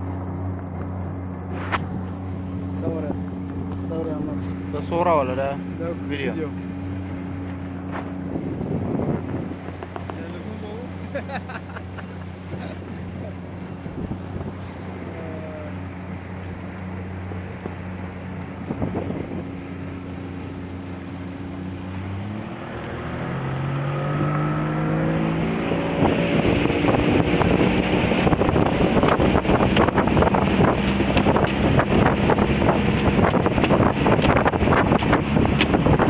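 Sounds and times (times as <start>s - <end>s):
rapid buffeting: 0.0s - 36.0s
rushing water: 0.0s - 36.0s
rushing wind: 0.0s - 36.0s
speedboat engine revving: 0.0s - 36.0s.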